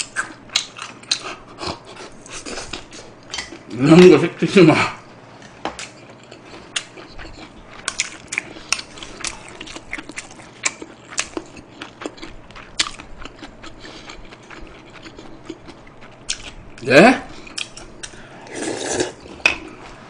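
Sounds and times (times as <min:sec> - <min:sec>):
chewing with mouth clicks: 0:00.0 - 0:03.7, 0:05.8 - 0:18.2.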